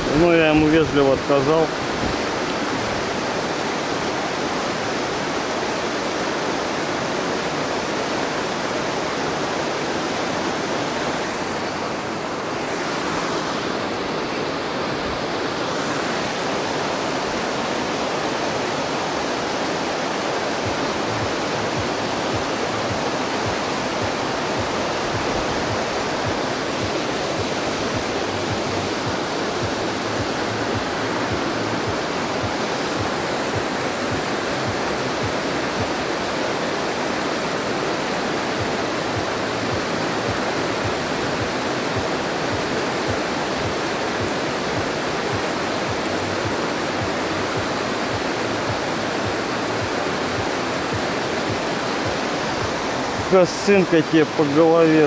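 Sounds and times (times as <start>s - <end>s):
water rushing through a dam: 0.0s - 55.0s.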